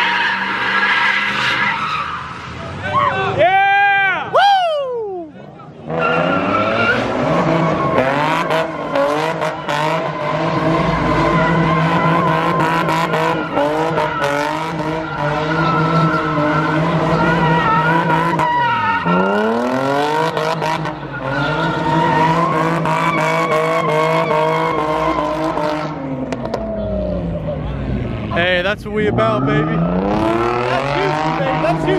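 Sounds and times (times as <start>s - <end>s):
tires squealing: 0.0s - 31.9s
car engine at high revs: 5.7s - 31.9s.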